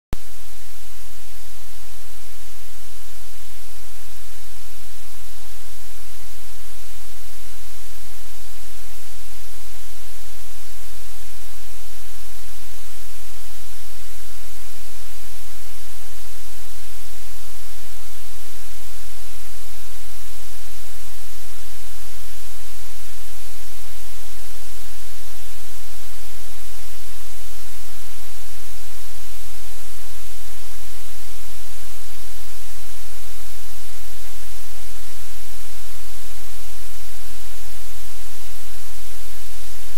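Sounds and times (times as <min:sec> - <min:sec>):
low electrical hum: 0:00.2 - 0:39.9
static hiss: 0:00.2 - 0:39.9.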